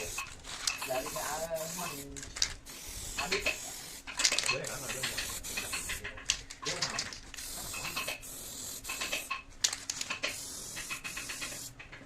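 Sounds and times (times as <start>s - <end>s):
hissing spray bursts: 0.0s - 6.1s, 7.3s - 9.4s, 10.1s - 11.8s.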